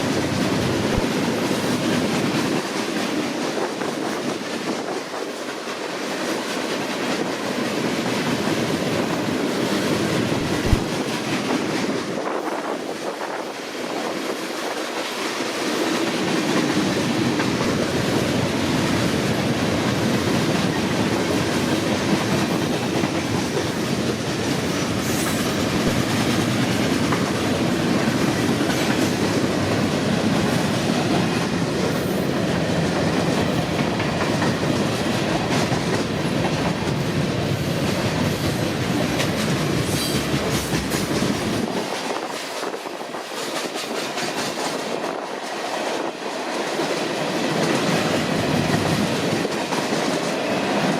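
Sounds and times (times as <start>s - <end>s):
train wheels clacking on rails: 0.0s - 50.9s.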